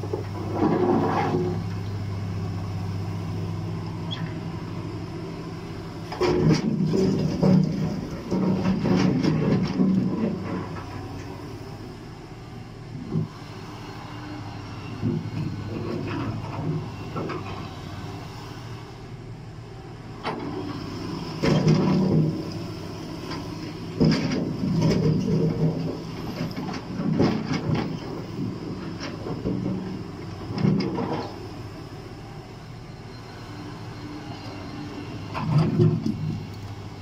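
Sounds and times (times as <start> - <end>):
excavator running: 0.0 - 37.0.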